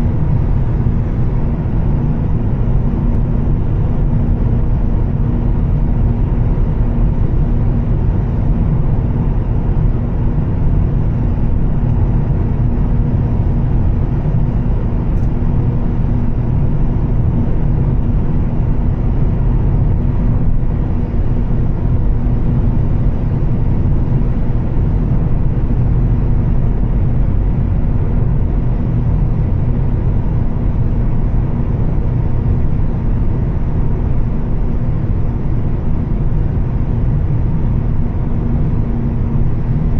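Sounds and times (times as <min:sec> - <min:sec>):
car engine droning at cruise: 0:00.0 - 0:39.9.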